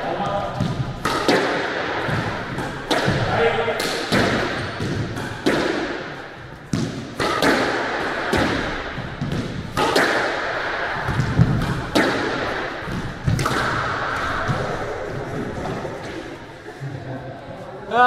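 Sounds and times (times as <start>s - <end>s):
squash ball hits echoing: 0.0s - 16.5s.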